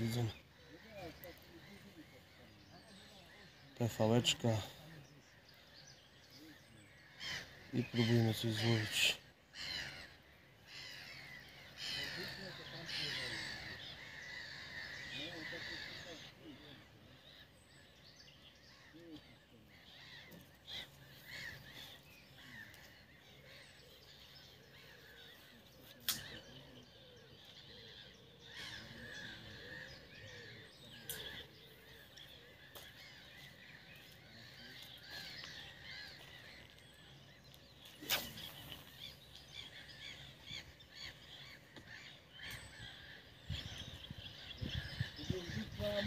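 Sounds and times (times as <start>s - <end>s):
birds singing and calling: 0.0s - 46.0s
faint outdoor background noise: 0.0s - 46.0s.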